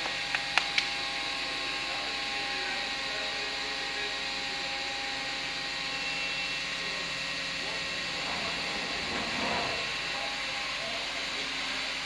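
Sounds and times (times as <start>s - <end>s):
factory machinery drone: 0.0s - 12.0s.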